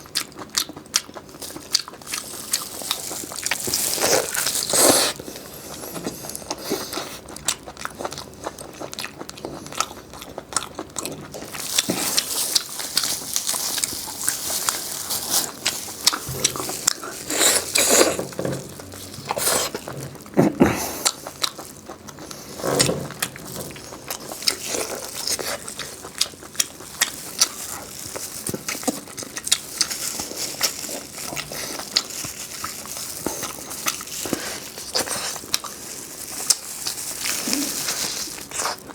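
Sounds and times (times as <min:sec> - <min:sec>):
person chewing crisp food: 0:00.0 - 0:38.9.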